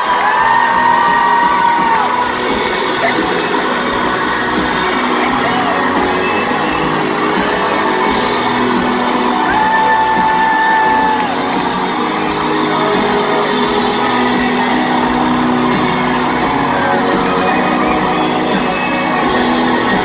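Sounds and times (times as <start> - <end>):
fans whooping and shouting: 0.0 - 20.0
live band playing through speakers: 0.0 - 20.0.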